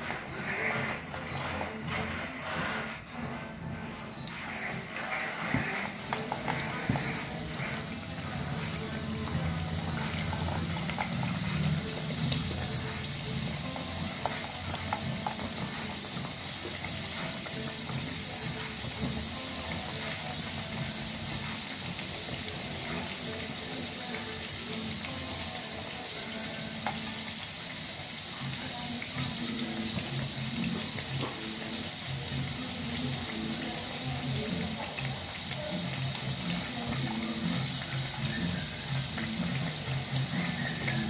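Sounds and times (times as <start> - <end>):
pastries deep-frying in oil: 0.0 - 41.0.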